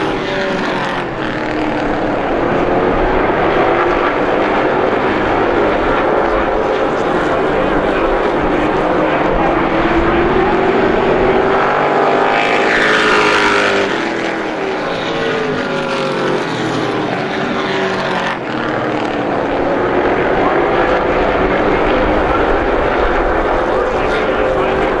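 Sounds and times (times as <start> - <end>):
race truck engines passing: 0.0 - 25.0.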